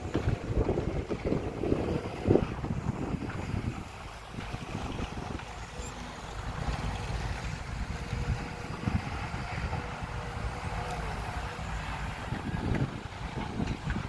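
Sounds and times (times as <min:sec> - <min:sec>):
excavator diesel engine under load: 0:00.0 - 0:14.0.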